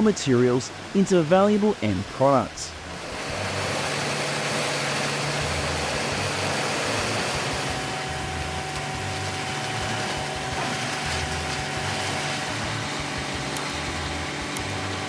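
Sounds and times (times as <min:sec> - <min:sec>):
thin steady whine: 0:00.0 - 0:15.0
wood grinder engine drone: 0:02.7 - 0:15.0.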